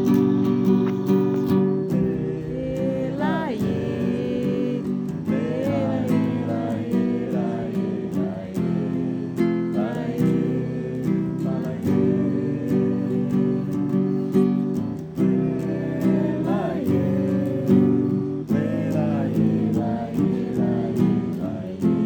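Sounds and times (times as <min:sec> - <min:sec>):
acoustic guitar strummed: 0:00.0 - 0:22.0
person singing: 0:02.0 - 0:14.4, 0:15.0 - 0:22.0.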